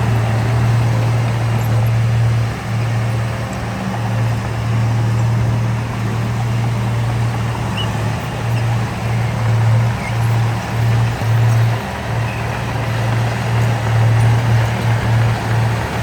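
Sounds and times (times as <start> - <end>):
diesel machinery engine drone: 0.0 - 16.0.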